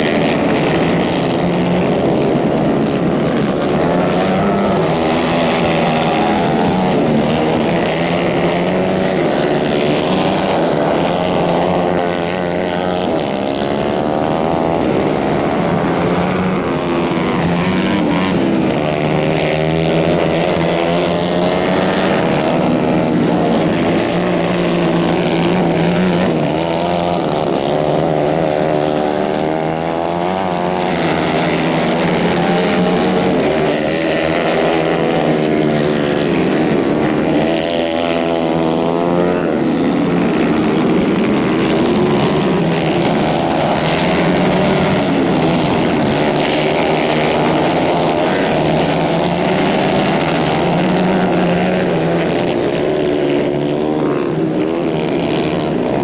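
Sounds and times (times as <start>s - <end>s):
kart engines racing: 0.0s - 56.0s.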